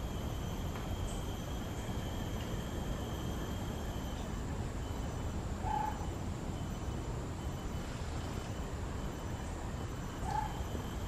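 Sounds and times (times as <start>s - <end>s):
insects buzzing high tones: 0.0s - 11.0s.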